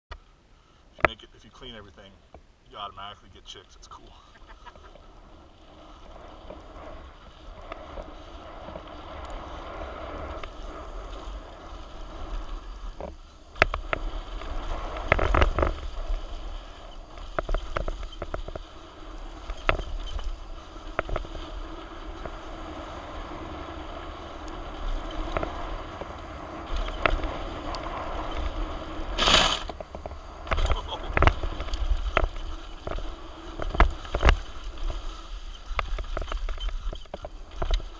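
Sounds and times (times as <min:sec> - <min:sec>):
tyres on dirt: 0:01.0 - 0:37.9
wind rushing over microphone: 0:04.4 - 0:37.9
bike rattling over rocks: 0:04.6 - 0:37.9.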